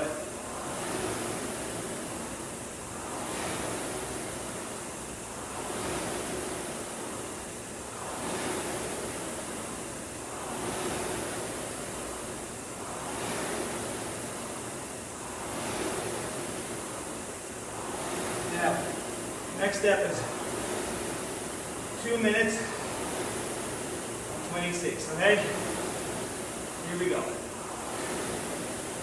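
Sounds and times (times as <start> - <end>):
rowing machine flywheel whooshing: 0.0 - 29.0.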